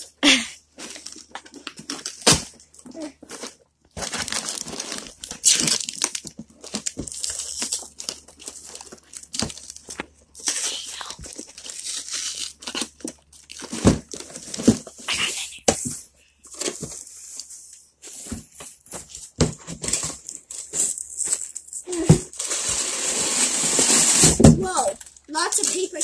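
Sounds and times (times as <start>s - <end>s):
plastic packaging rustling: 0.6s - 26.0s.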